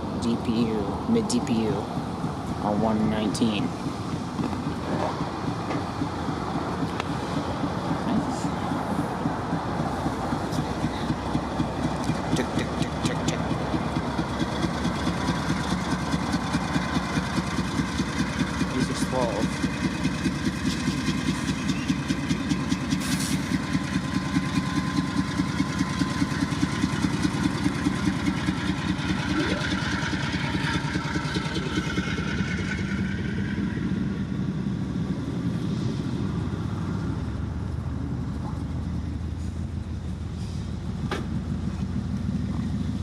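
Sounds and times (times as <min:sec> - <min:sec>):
diesel locomotive engine chugging: 0:00.0 - 0:43.0
train rolling rumble: 0:00.0 - 0:43.0.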